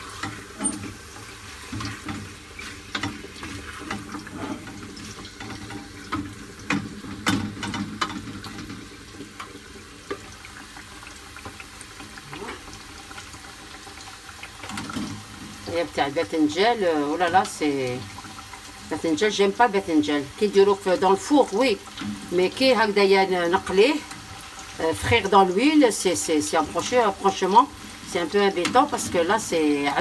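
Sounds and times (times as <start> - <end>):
food sizzling in a pot: 0.0 - 30.0.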